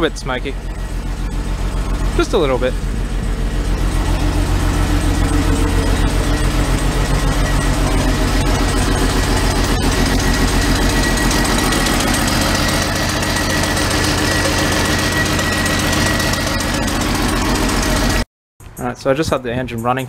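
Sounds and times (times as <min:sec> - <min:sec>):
car engine idling unevenly: 0:00.0 - 0:18.2.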